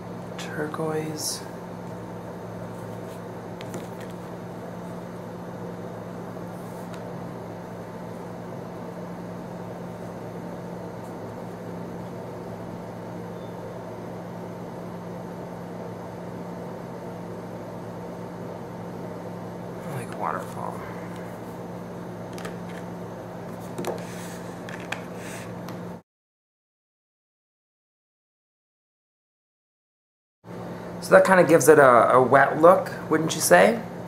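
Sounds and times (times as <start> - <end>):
low electrical hum: 0.0 - 26.0, 30.5 - 34.0.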